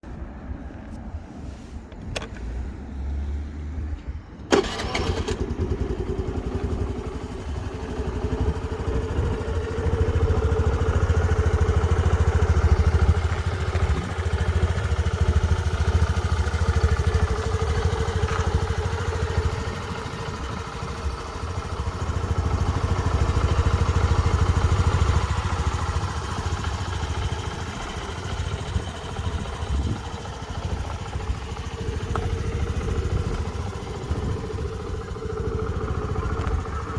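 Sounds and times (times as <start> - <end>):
scooter engine starting and running: 4.3 - 36.9.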